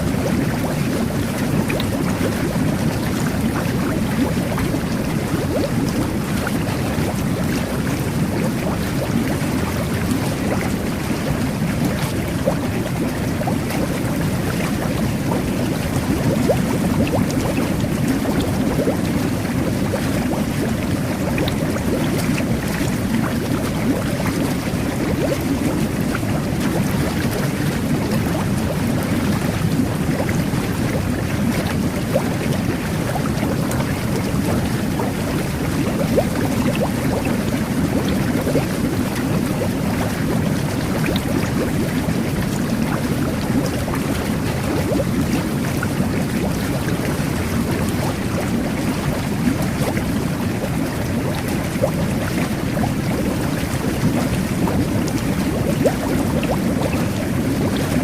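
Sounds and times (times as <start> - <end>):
whirlpool tub water churning: 0.0 - 58.0.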